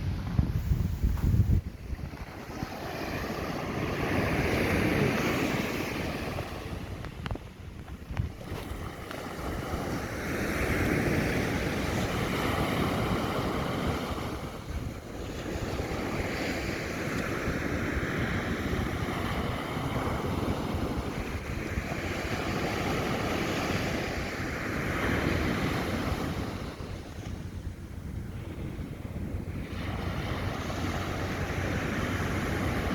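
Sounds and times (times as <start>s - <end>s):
sea waves breaking: 0.0s - 32.9s.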